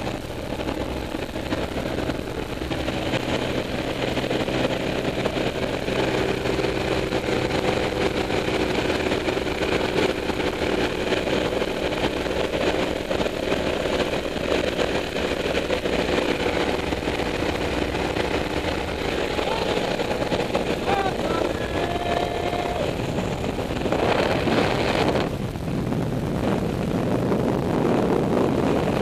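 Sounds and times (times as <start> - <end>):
plane engine and propeller drone: 0.0 - 29.0.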